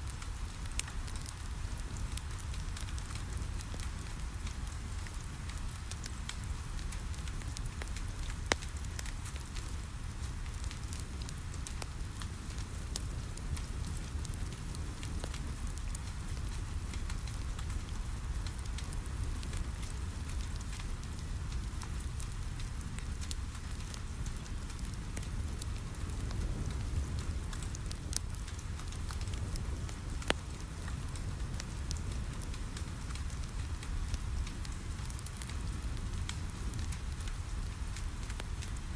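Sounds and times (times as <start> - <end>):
fire popping: 0.0 - 38.9
steady rain: 0.0 - 38.9
wood fire crackling: 0.0 - 38.9.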